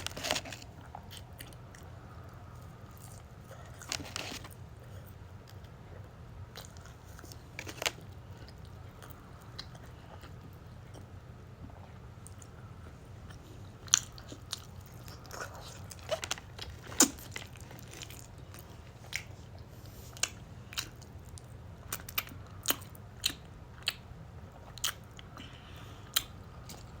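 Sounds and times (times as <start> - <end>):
person chewing crunchy food: 0.0 - 5.8, 6.5 - 27.0
steady low hum: 0.0 - 27.0.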